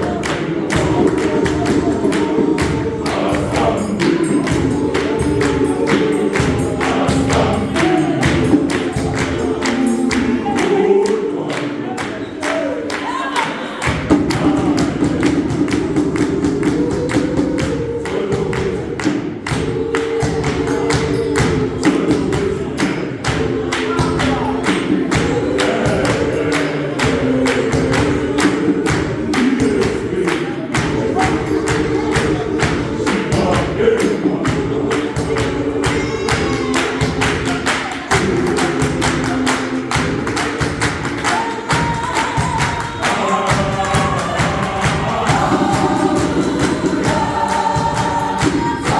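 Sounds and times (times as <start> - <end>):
gospel choir singing: 0.0 - 48.9.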